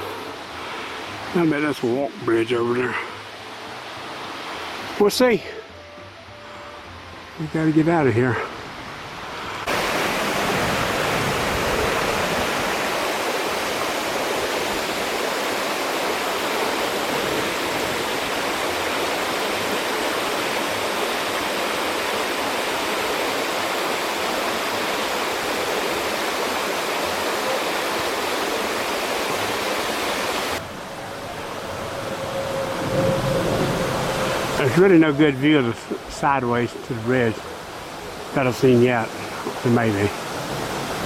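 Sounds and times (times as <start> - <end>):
stream water rushing: 0.0 - 41.0.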